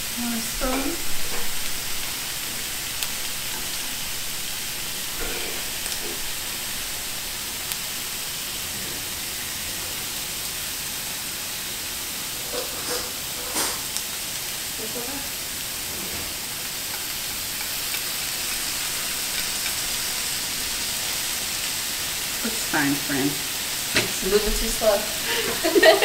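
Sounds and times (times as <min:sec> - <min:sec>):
food sizzling on griddle: 0:00.0 - 0:26.0.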